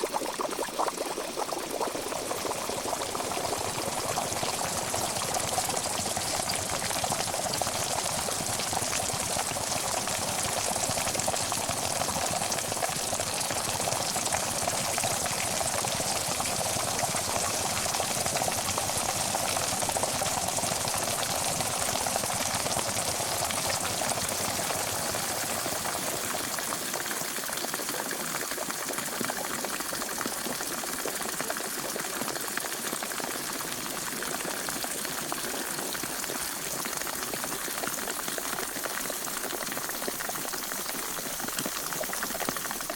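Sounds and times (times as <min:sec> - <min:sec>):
water boiling in pot: 0:00.0 - 0:42.9.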